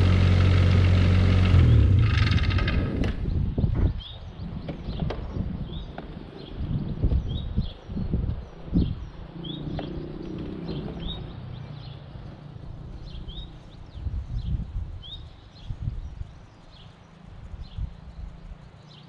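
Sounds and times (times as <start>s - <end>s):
wind rumbling on microphone: 0.0s - 19.0s
small bird chirping: 3.2s - 19.0s.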